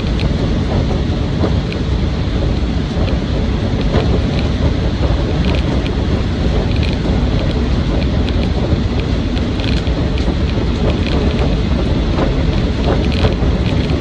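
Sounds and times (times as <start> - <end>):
diesel engine running: 0.0 - 14.0
road and wind noise: 0.0 - 14.0.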